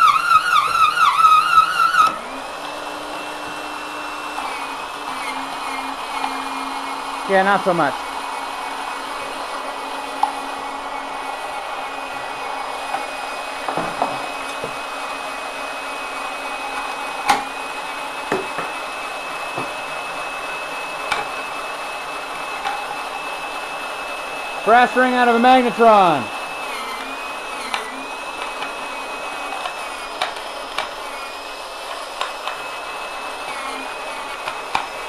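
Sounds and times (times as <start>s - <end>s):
small motor whining: 0.0s - 35.0s.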